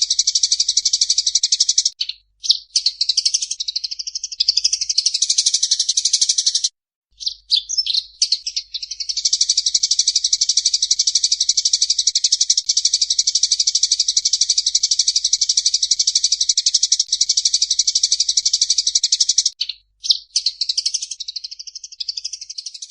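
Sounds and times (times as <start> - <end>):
songbird singing trills: 0.0 - 22.9.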